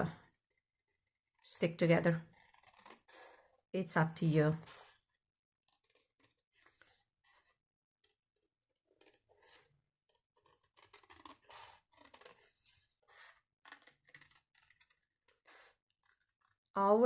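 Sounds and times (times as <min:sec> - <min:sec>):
scissors snipping paper: 0:00.0 - 0:03.5, 0:04.3 - 0:16.6.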